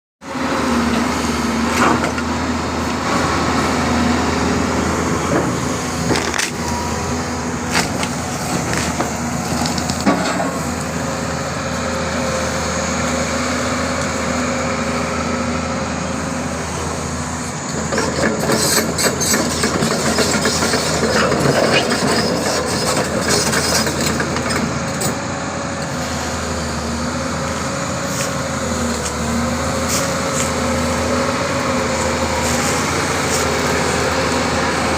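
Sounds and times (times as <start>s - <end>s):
excavator engine running: 0.2s - 34.9s.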